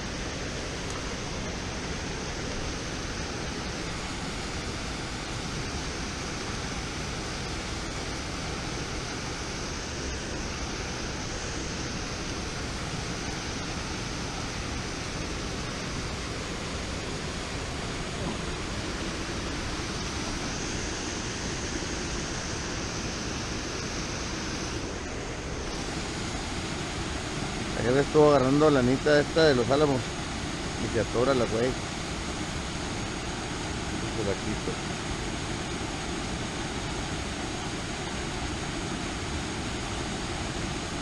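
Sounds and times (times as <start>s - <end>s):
water rushing over spillway: 0.0s - 41.0s.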